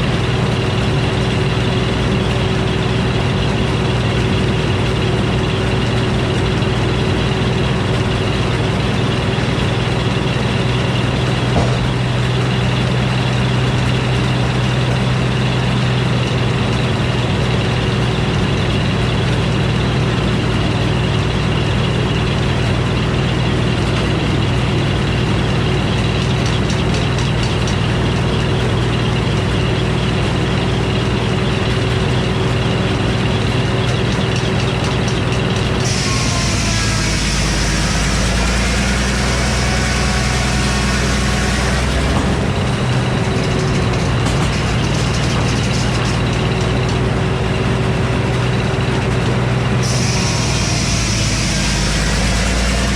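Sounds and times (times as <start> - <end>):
sawmill engine drone: 0.0 - 52.9.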